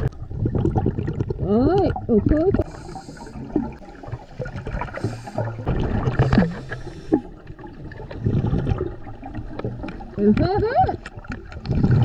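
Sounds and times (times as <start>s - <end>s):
water gurgling and sloshing: 0.0s - 12.0s.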